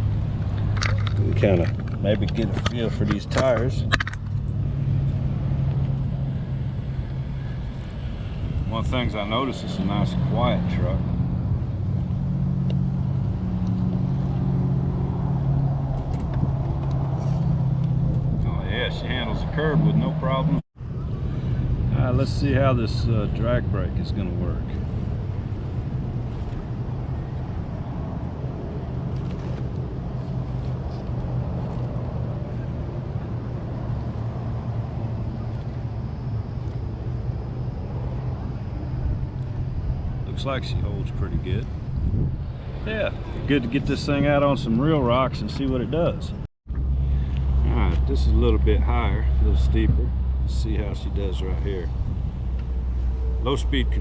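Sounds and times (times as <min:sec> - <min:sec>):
low mechanical hum: 0:00.0 - 0:43.6.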